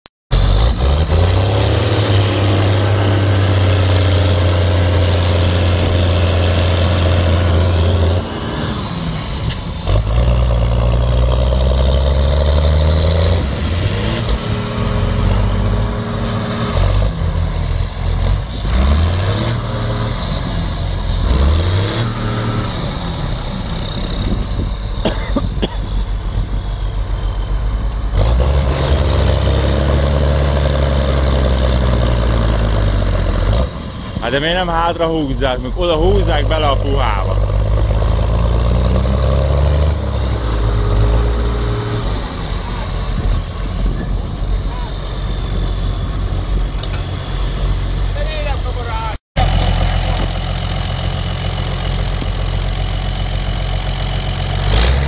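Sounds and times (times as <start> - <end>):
tractor diesel engine straining: 0.3 - 55.0.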